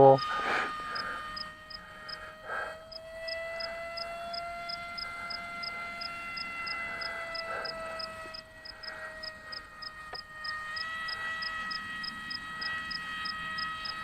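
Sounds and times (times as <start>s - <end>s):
electric motor and propeller whining: 0.0s - 14.0s.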